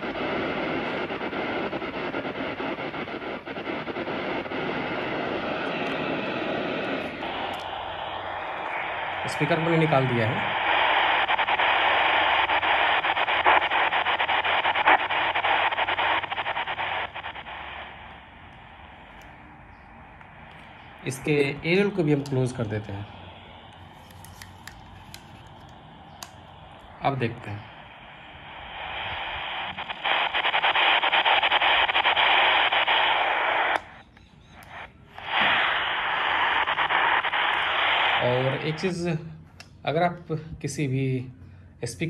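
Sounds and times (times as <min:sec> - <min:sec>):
radio static hiss and crackling: 0:00.0 - 0:42.0.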